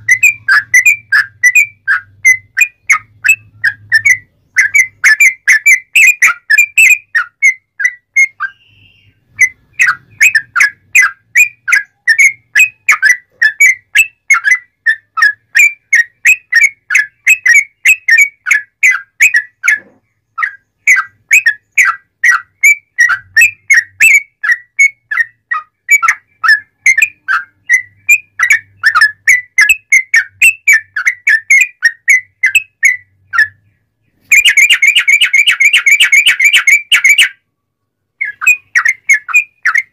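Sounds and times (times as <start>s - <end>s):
bird singing whistled notes: 0.0s - 37.5s, 38.2s - 39.9s.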